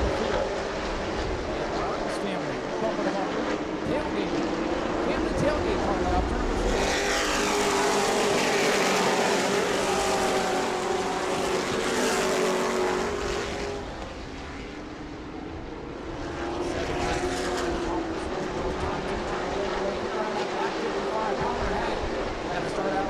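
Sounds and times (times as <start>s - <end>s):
race truck engines passing by: 0.0s - 23.0s.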